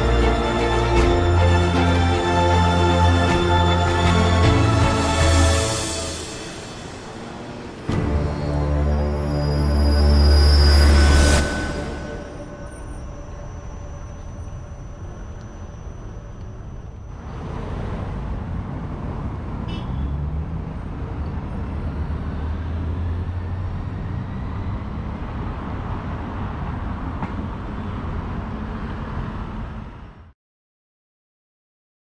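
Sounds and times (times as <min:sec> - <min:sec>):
cars passing: 0:00.0 - 0:30.3.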